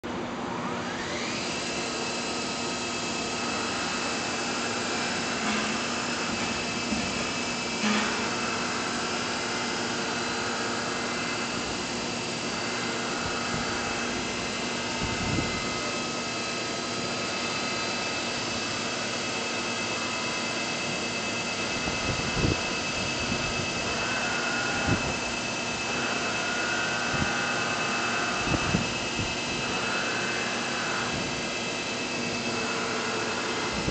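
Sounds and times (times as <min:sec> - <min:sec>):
machining center whine and hum: 0:00.0 - 0:33.9.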